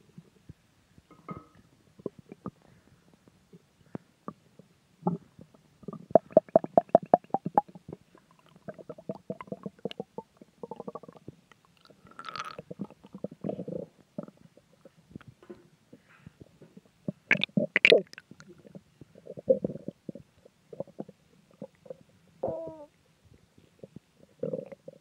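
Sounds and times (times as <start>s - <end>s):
stomach growling and gurgling: 1.1s - 25.0s.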